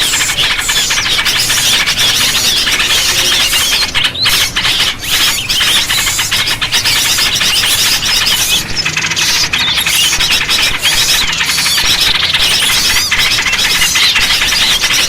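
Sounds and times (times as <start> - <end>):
small birds chirping and twittering: 0.0 - 15.0.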